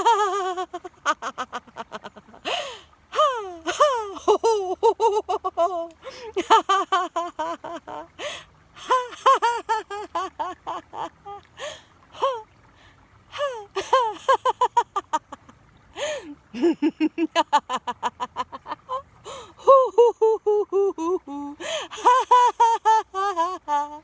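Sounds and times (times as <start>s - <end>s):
woman laughing loudly: 0.0s - 8.1s, 8.8s - 11.1s, 13.4s - 24.0s.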